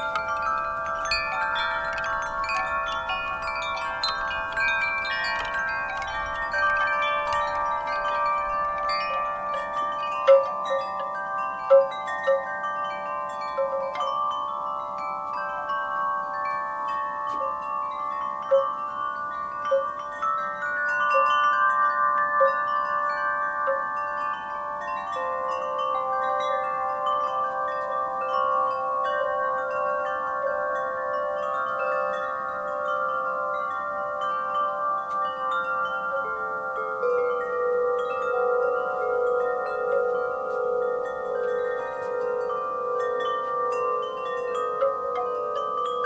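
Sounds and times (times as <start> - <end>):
wind chimes ringing: 0.0 - 46.0.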